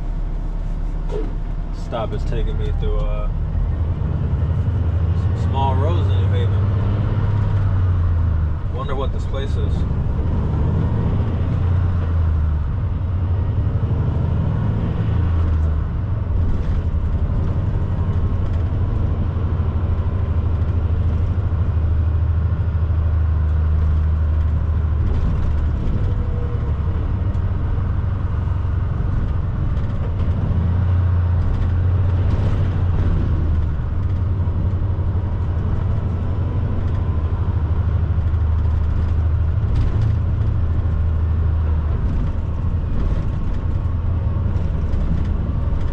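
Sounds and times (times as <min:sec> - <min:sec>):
diesel truck engine droning: 0:00.0 - 0:45.9.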